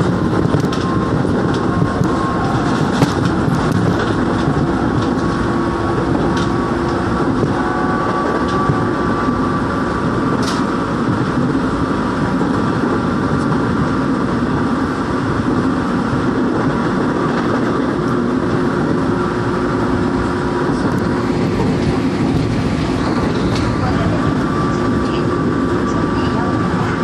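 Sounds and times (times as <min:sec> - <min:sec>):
steady train hum: 0:00.0 - 0:27.0
train wheels rumbling on rails: 0:00.0 - 0:27.0.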